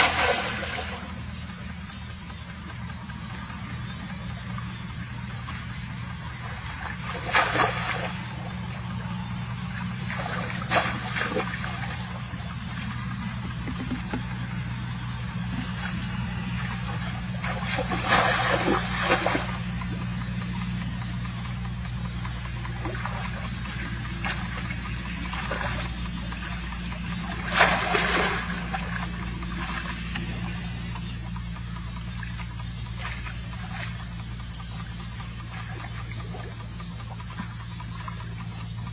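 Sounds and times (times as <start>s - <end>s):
steady low hum: 0.0s - 38.9s
water splashing and sloshing: 0.0s - 38.9s.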